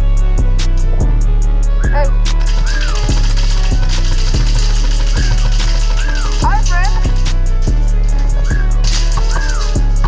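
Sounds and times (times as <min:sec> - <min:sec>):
music with heavy bass: 0:00.0 - 0:10.0
steady drum beat: 0:01.1 - 0:10.0.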